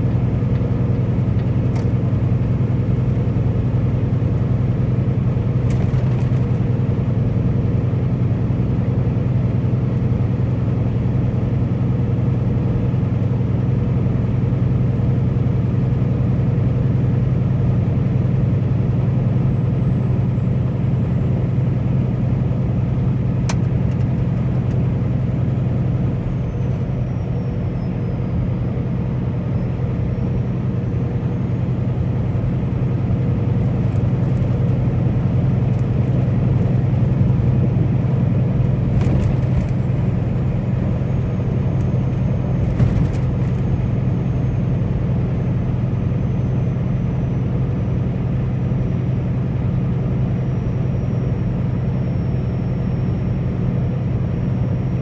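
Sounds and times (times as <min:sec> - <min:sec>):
truck engine drone and road noise: 0:00.0 - 0:55.0.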